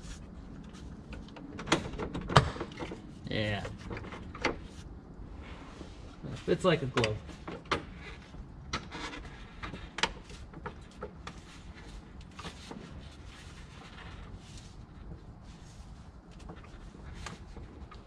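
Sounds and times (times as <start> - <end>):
low steady background rumble: 0.0 - 18.0.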